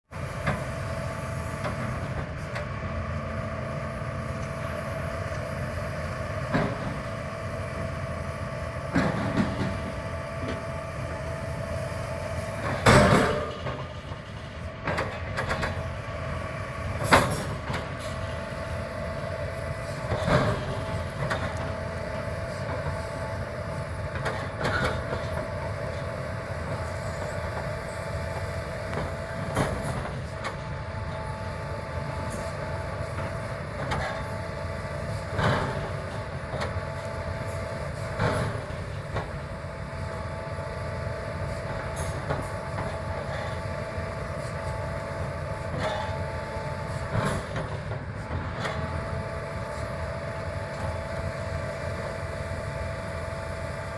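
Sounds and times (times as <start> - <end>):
excavator engine running: 0.1 - 53.9.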